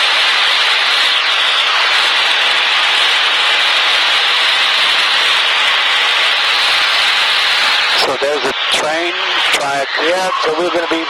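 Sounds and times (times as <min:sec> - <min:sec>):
small plane cockpit noise: 0:00.0 - 0:11.0.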